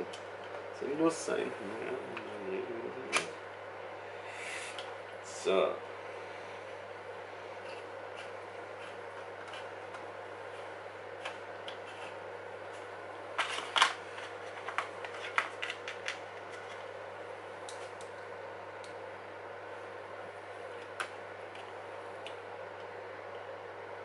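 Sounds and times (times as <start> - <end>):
faint steady hum and hiss: 0.0 - 24.0.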